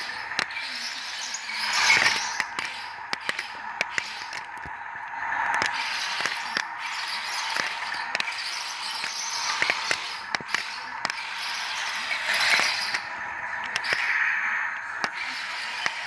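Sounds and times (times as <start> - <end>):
toy tank motor whirring: 0.0 - 4.8, 5.5 - 16.0
sharp clicks: 0.0 - 16.0.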